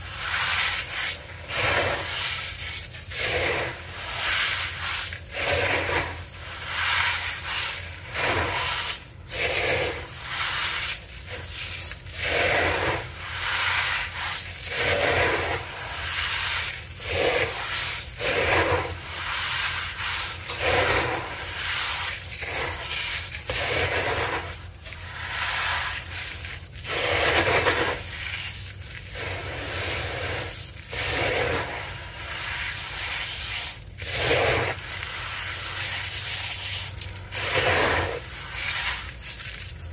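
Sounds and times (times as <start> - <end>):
hands rubbing crunchy crumbles: 0.0 - 39.9.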